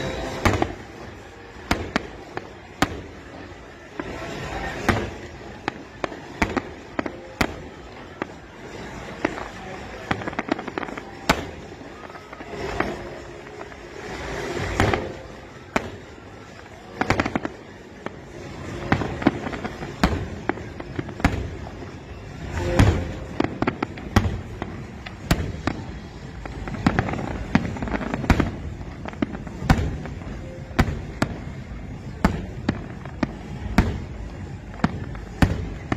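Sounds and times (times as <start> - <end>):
fireworks bursting with bangs: 0.0 - 35.9
fireworks crackling: 0.0 - 35.9.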